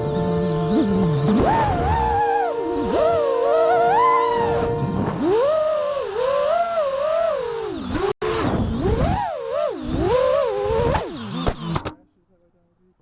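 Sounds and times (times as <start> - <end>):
quadcopter motors whining: 0.0 - 11.9.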